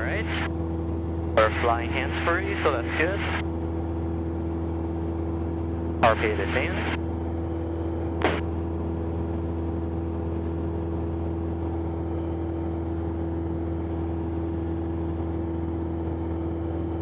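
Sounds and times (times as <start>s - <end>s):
propeller engine droning: 0.0s - 17.0s.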